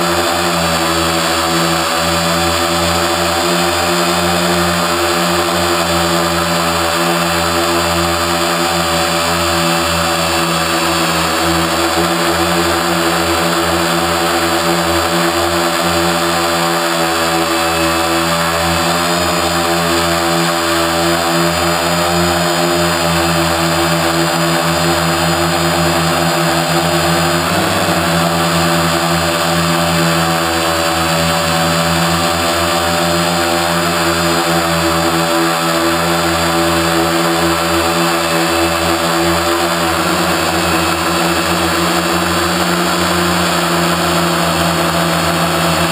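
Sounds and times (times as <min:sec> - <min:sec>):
quadcopter propellers droning: 0:00.0 - 0:45.9.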